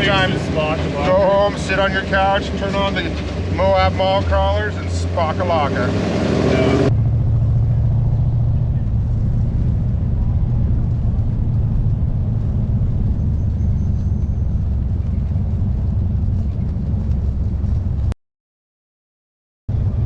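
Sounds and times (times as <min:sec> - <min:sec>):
vehicle engine droning: 0:00.0 - 0:18.2, 0:19.7 - 0:20.0.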